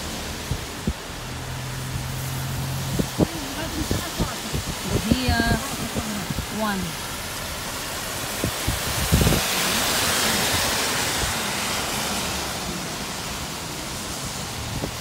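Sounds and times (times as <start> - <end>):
car tyres hissing on wet road: 0.0 - 15.0.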